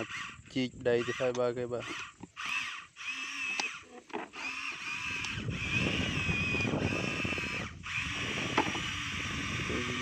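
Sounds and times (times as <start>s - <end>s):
toy electric motors whining: 0.0s - 10.0s.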